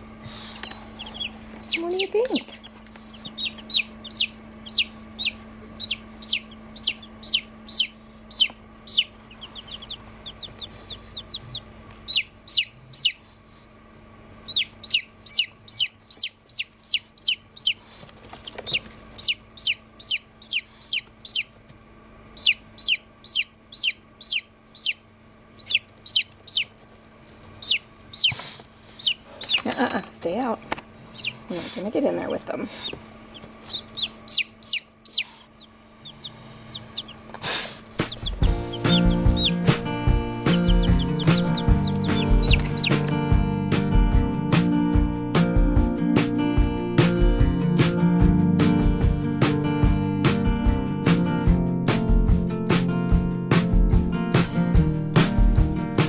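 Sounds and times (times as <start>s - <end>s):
steady low hum: 0.0s - 56.0s
chicks peeping: 0.1s - 13.6s, 14.4s - 21.6s, 22.3s - 51.2s.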